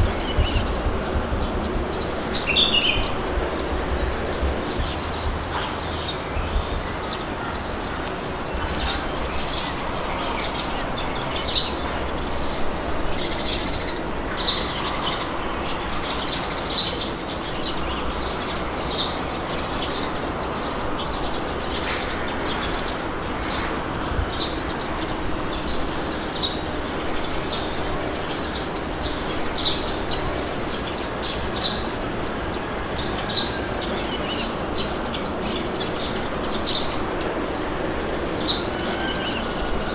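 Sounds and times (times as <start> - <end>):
birds chirping: 0.0 - 39.9
wind blowing with low rumble: 0.0 - 39.9.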